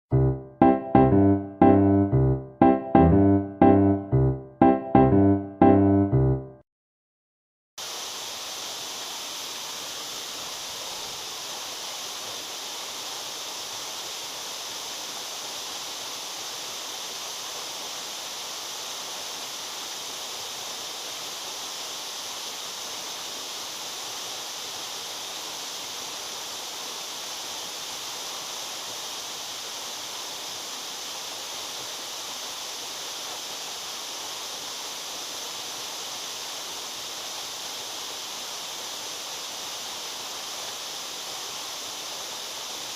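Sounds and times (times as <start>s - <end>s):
waterfall rushing: 7.8s - 42.9s.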